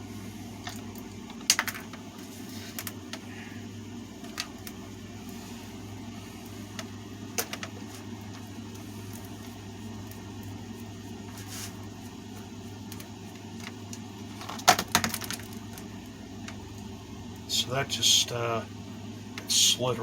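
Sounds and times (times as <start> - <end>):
fan parts clicking: 0.0 - 18.4
low mechanical hum: 0.0 - 20.0.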